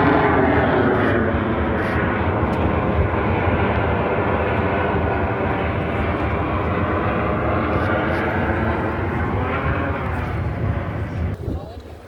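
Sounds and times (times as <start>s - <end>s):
airplane engine overhead: 0.0s - 12.0s.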